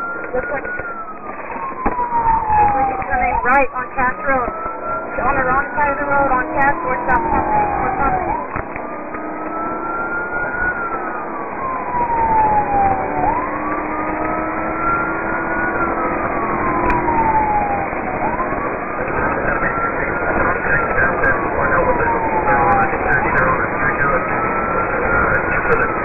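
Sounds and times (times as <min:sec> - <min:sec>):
police siren wailing: 0:00.0 - 0:26.0
road noise of moving car: 0:00.0 - 0:26.0.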